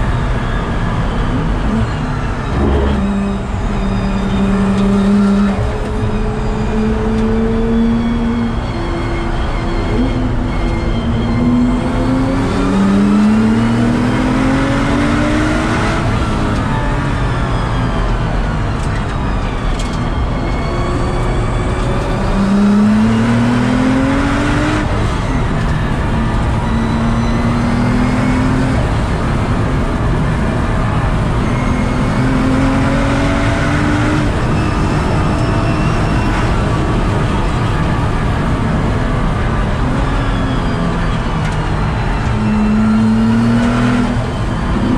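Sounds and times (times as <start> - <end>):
car engine accelerating with gear shifts: 0.0 - 44.9.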